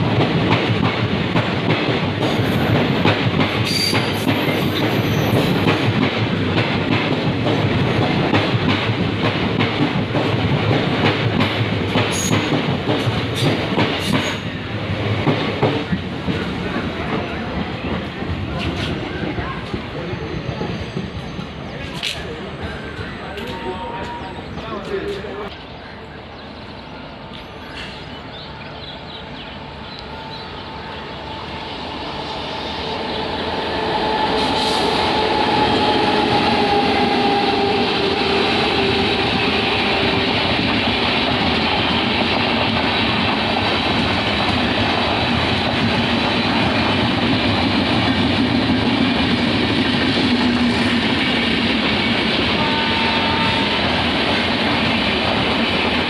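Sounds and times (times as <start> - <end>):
train wheels rushing and rattling: 0.0 - 25.7, 27.2 - 56.0.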